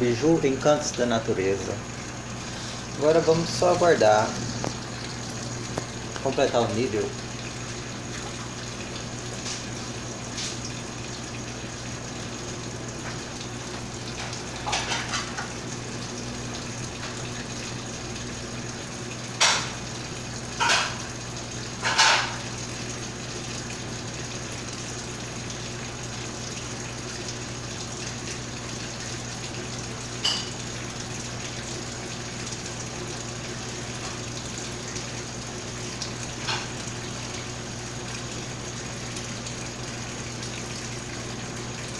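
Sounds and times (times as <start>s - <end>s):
water rushing into washing machine: 0.0s - 41.9s.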